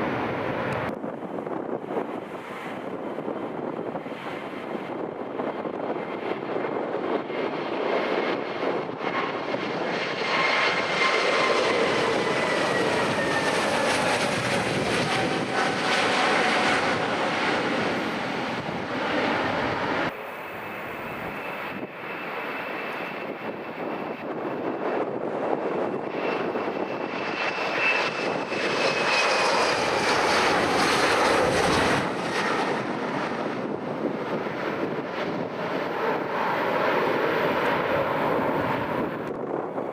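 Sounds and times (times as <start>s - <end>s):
airliner passing by: 0.0s - 39.9s.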